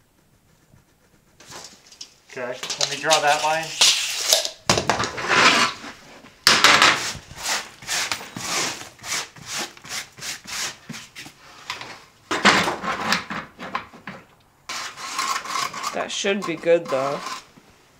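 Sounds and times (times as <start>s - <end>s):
level scraping on plywood floor: 1.4s - 14.1s, 14.7s - 17.6s.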